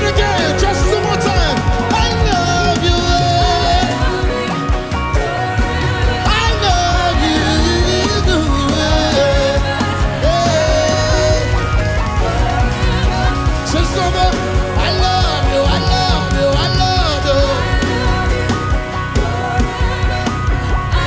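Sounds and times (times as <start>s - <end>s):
drums and bass beat: 0.0s - 21.0s
worship band music: 0.0s - 21.0s.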